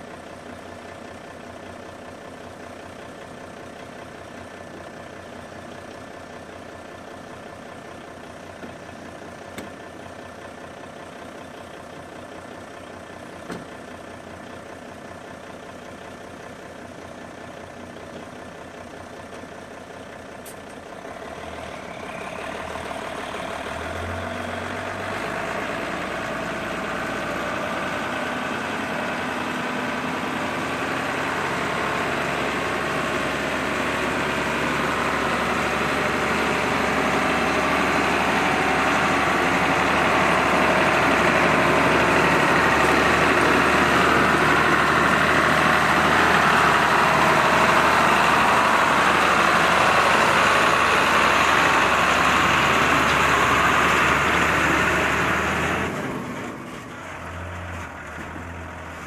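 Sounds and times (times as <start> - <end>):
truck engine approaching: 0.0 - 59.0.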